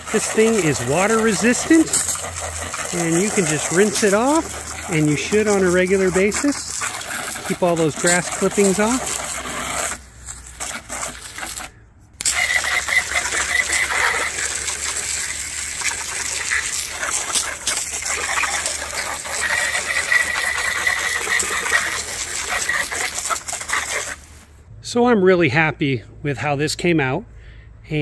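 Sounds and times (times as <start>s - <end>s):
hose spray hissing on plastic: 0.0s - 24.6s.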